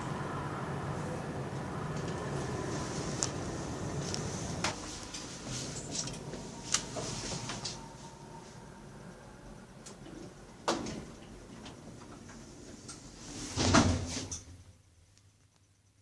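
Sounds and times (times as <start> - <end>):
lift humming: 0.0 - 13.6.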